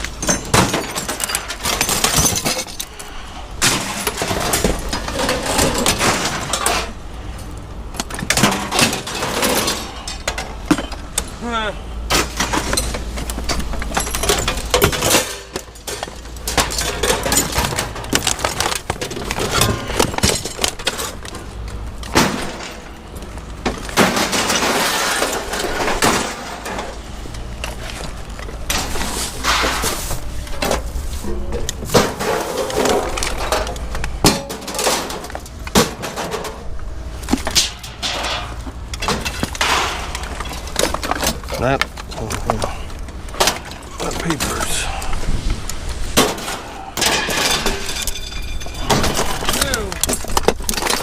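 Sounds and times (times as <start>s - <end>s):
junk clattering in a dumpster: 0.0s - 51.0s.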